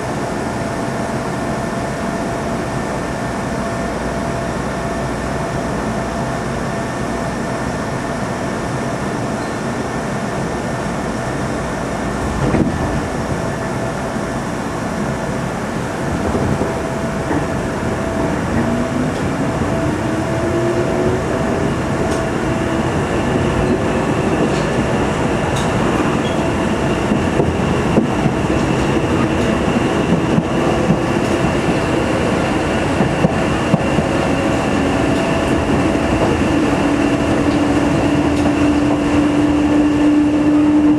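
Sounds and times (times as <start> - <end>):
train wheels and motors rumbling: 0.0 - 40.9.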